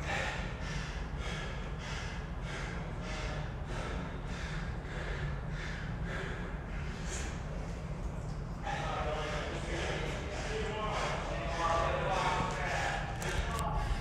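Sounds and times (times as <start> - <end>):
person panting hard: 0.0 - 8.0, 8.6 - 14.0.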